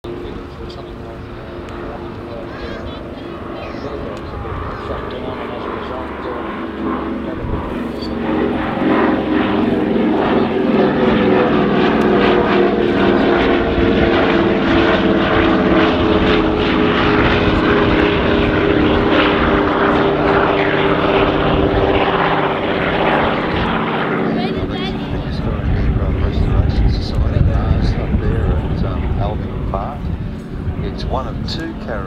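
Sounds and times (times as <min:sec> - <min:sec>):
propeller aircraft flying past: 0:00.0 - 0:32.0.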